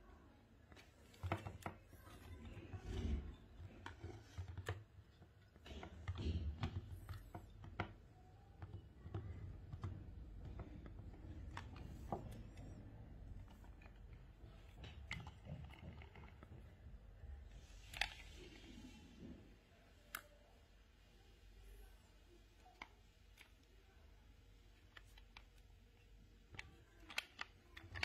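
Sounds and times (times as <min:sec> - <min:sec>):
plastic toy clicking and tapping: 0:00.7 - 0:19.0, 0:22.4 - 0:28.0.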